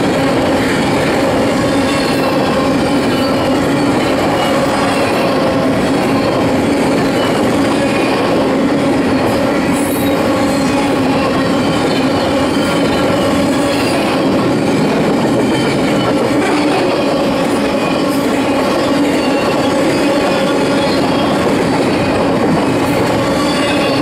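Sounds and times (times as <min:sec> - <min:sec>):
train wheels rushing on rail: 0:00.0 - 0:24.0
high wheel squeal: 0:00.4 - 0:24.0.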